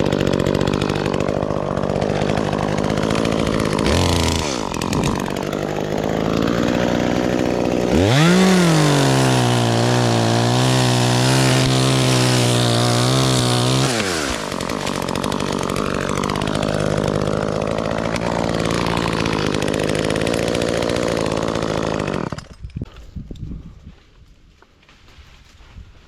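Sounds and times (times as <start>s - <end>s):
chainsaw engine running: 0.0s - 22.7s.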